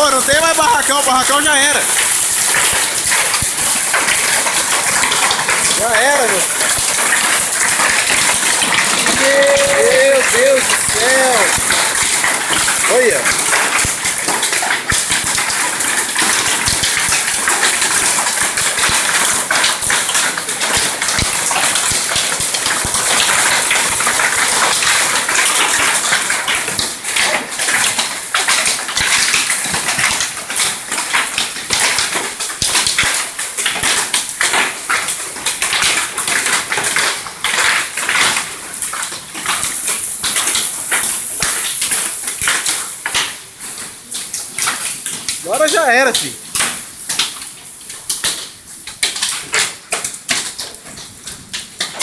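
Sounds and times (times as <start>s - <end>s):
heavy rain hissing: 0.0s - 49.9s
hailstones striking: 0.0s - 52.0s.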